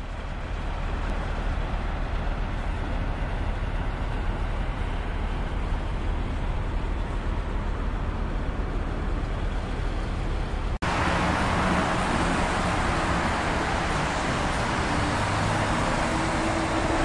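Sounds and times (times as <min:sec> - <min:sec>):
highway traffic: 0:00.0 - 0:17.0.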